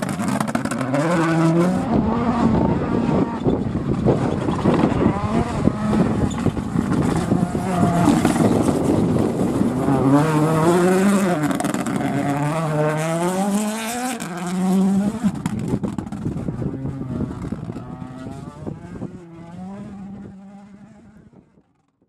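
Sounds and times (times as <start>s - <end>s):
rally car engine accelerating: 0.0s - 21.8s.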